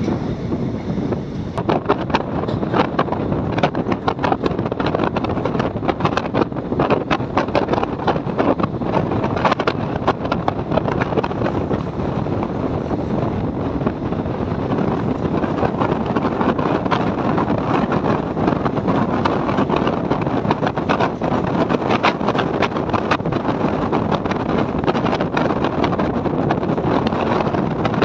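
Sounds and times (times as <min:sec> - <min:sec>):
train rumbling on track: 0:00.0 - 0:28.0
wind buffeting microphone: 0:00.0 - 0:28.0
wheels clicking and knocking: 0:01.3 - 0:28.0.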